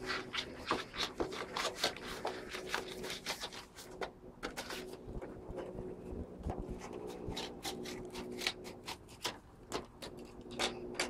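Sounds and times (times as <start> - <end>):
cardboard rustling and scraping: 0.0 - 10.4.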